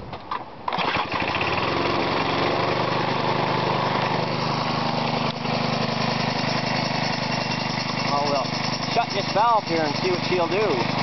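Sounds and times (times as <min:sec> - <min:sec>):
lawnmower engine running: 0:00.3 - 0:11.0.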